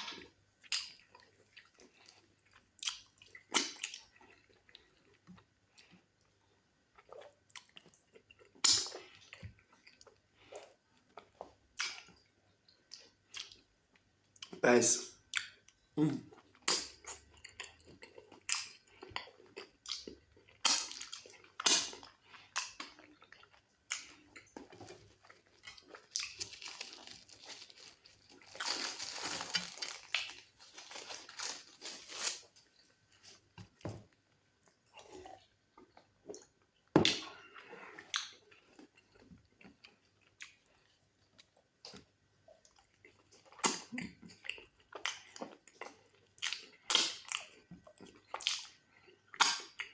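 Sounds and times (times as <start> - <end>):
person chewing food: 0.0 - 14.6, 15.2 - 49.9.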